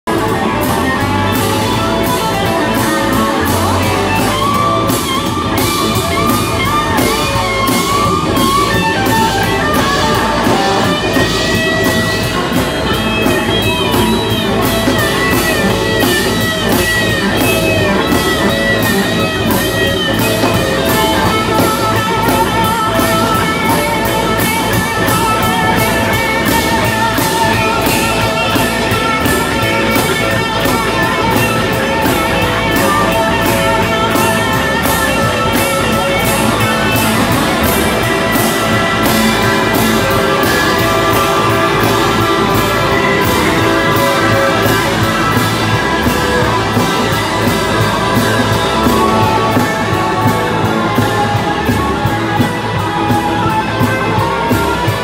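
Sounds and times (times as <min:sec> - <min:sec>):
drum kit beat: 0:00.0 - 0:55.0
electric guitar lead bending pitch: 0:00.0 - 0:55.0
live rock band: 0:00.0 - 0:55.0.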